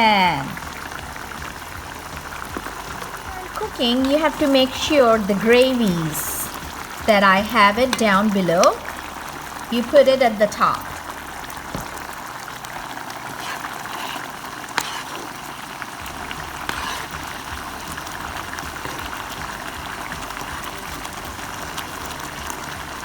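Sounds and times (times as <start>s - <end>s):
gravy bubbling and sizzling in a pan: 0.0s - 23.0s.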